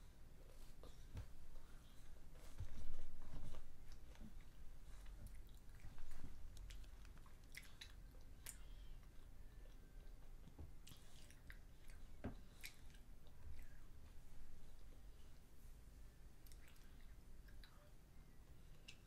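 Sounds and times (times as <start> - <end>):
child chewing food: 0.0 - 19.0.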